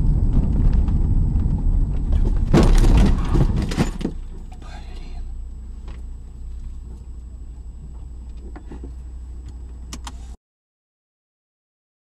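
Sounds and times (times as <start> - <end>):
car engine and road rumble: 0.0 - 10.4.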